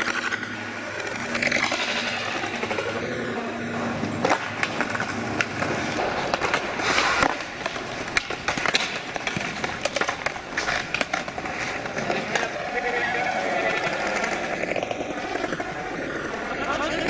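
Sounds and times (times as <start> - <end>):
skateboard clacking on ground: 0.0 - 17.0
skateboard wheels rolling on concrete: 0.0 - 17.0.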